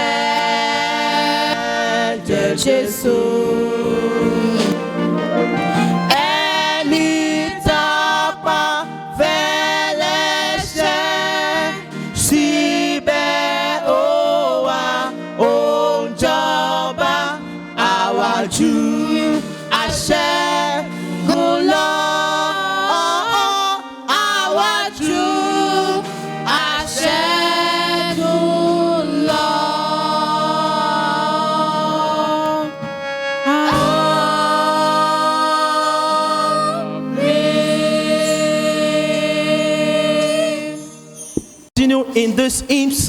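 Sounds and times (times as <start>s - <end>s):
choir singing a hymn: 0.0s - 41.7s.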